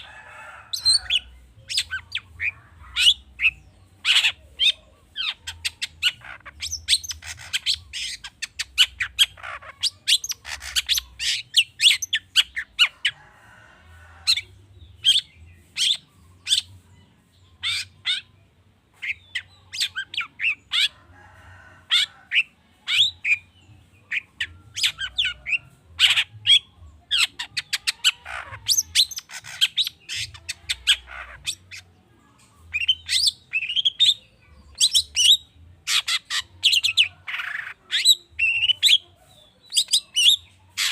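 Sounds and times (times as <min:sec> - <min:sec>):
harsh buzzy bird chatter: 0:00.0 - 0:16.8, 0:18.9 - 0:40.9.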